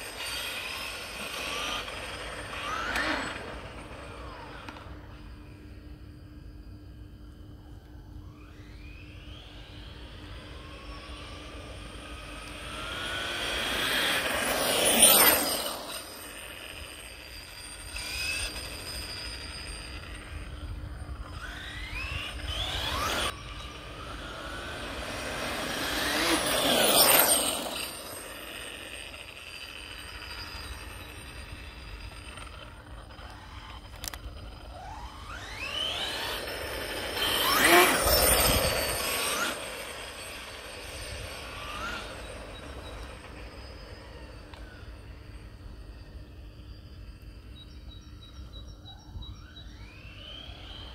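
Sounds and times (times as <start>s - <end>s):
rc car motor whine passing by: 0.0s - 50.9s.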